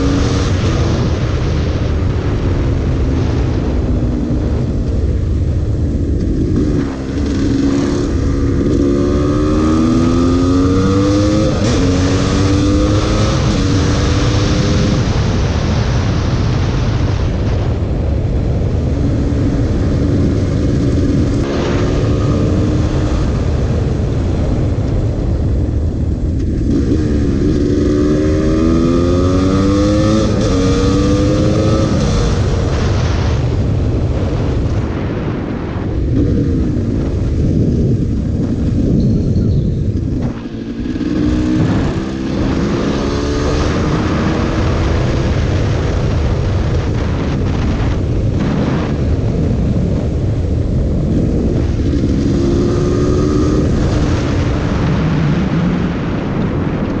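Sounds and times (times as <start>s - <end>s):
two-stroke motorcycle engine accelerating: 0.0s - 17.0s, 18.2s - 34.9s, 36.0s - 57.0s
wind rumble on microphone: 0.0s - 57.0s.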